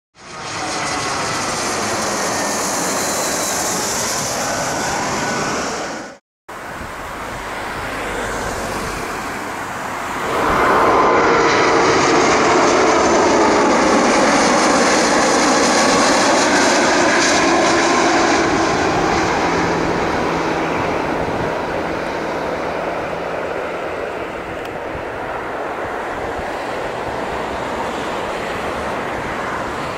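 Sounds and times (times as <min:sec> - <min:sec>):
jet aircraft passing overhead: 0:00.2 - 0:29.9.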